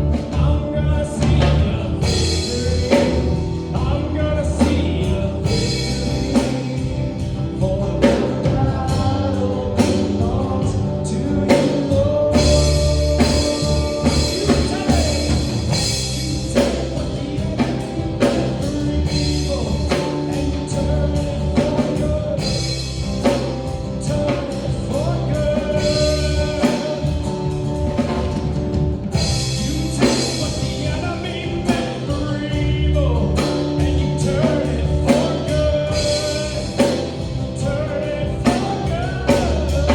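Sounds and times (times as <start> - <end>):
person singing: 0.0 - 28.2, 29.1 - 39.9
drum kit beat: 0.0 - 39.9
guitar: 0.0 - 39.9.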